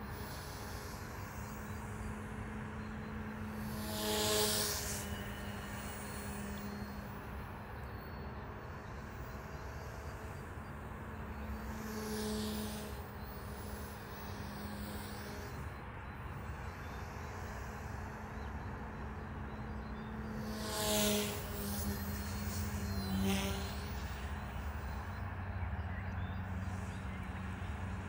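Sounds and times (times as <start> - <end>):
model helicopter rotor hum: 0.0 - 28.0.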